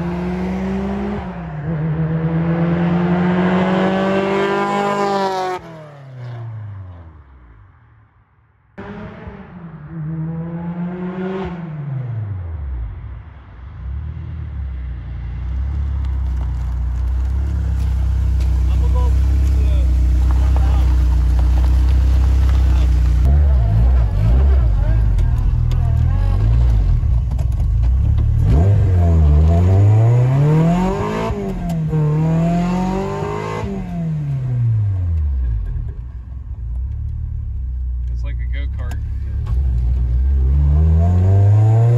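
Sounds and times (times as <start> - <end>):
car engine revving: 0.0 - 7.1, 8.8 - 12.8, 13.8 - 36.1, 36.7 - 41.9.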